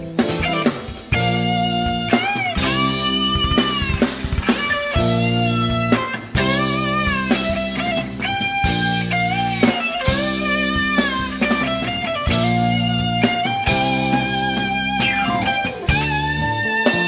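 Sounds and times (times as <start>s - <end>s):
electric guitar lead notes: 0.0s - 17.0s
live rock band playing: 0.0s - 17.0s.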